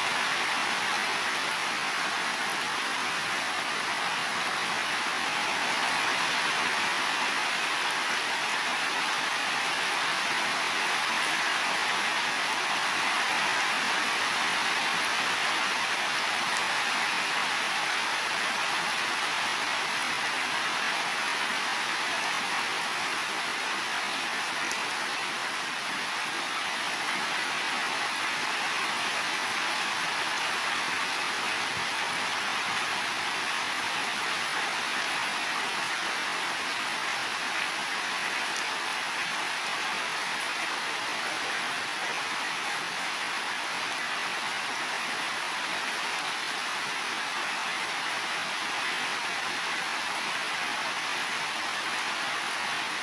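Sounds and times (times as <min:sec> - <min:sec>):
heavy rain on roofs: 0:00.0 - 0:53.0.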